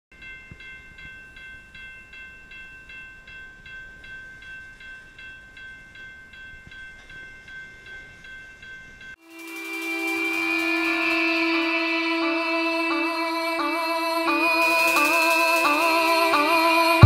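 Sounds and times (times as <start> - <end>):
crossing warning bell ringing: 0.1 - 17.0.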